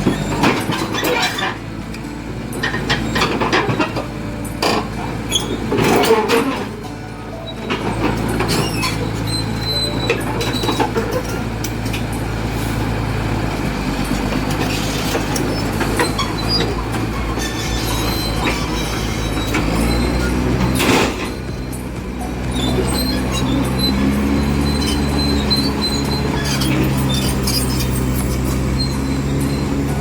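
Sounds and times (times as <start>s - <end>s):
bulldozer diesel engine running: 0.0s - 30.0s
crawler tracks clanking and squealing: 0.0s - 30.0s.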